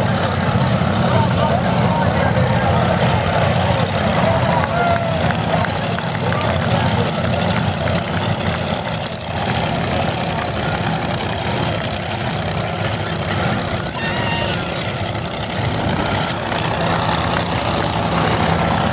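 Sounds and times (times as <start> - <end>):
powerboat engines droning: 0.0 - 18.9.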